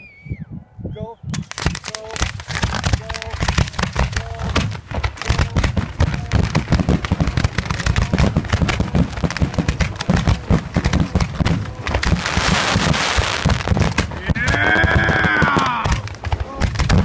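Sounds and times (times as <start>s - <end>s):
fireworks bursting: 1.3s - 17.0s.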